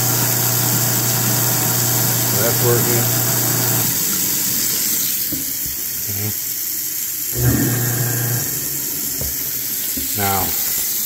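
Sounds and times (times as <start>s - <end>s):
garbage disposal motor humming: 0.0s - 11.0s
tap water running into sink: 0.0s - 11.0s.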